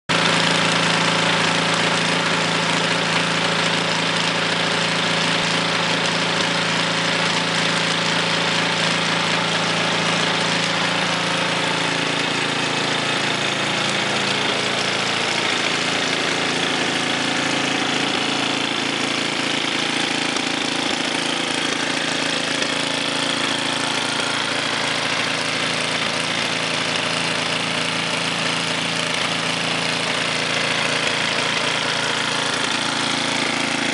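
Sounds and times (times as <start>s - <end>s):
snowblower engine running: 0.1s - 33.9s.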